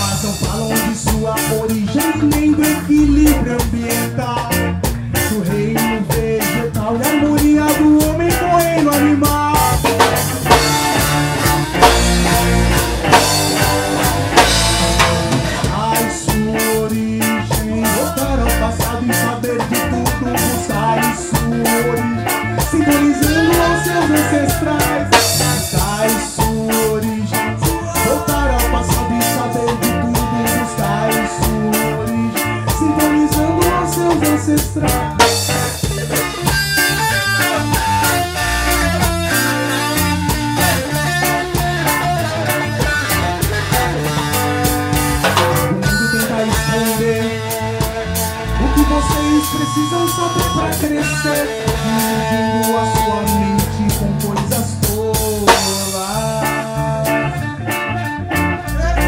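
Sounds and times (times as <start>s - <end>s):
live reggae band: 0.0s - 59.0s.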